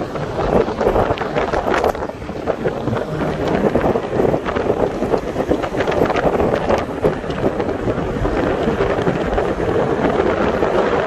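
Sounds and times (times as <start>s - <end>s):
car road noise: 0.0s - 11.0s
wind buffeting microphone: 0.0s - 11.0s.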